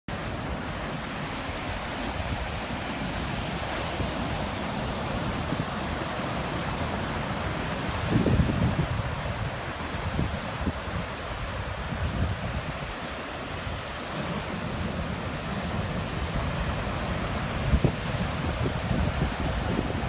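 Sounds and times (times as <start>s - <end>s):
surf waves breaking: 0.1s - 20.0s
wind buffeting microphone: 0.2s - 20.0s.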